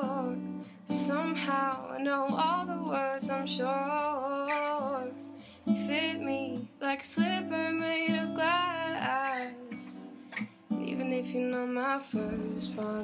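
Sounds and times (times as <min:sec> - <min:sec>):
person singing: 0:00.0 - 0:05.2, 0:05.8 - 0:10.0, 0:10.8 - 0:13.0
acoustic guitar: 0:00.0 - 0:13.0.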